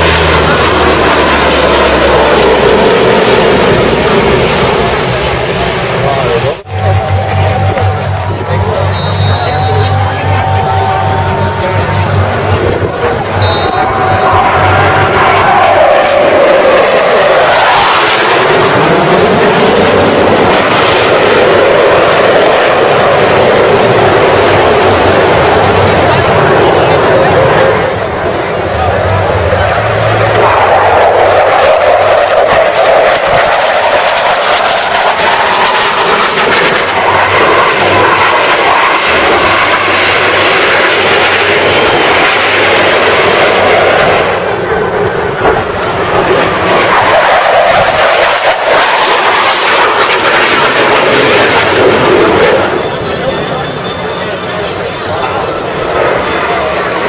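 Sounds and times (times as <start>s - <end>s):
jet flying past: 0.0s - 57.0s.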